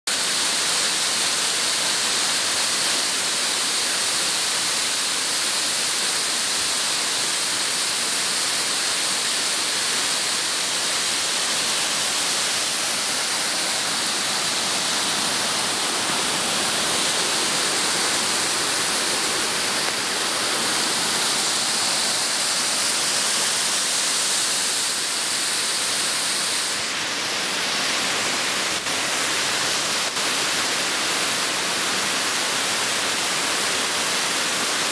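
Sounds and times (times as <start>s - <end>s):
small waterfall rushing: 0.0s - 34.9s.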